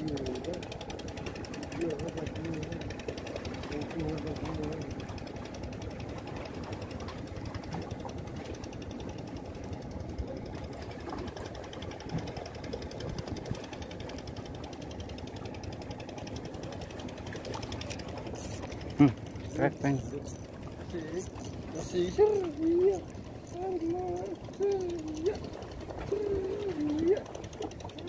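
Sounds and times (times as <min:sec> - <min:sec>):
engine rumbling with fast ticking: 0:00.0 - 0:28.0.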